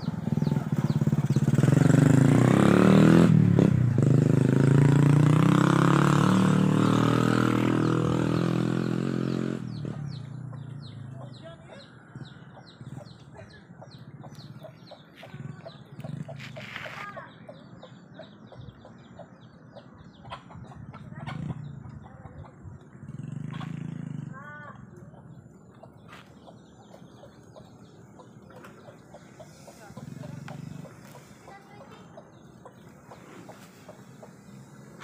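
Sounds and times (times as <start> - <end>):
motorcycle engine passing by: 0.0 - 35.0.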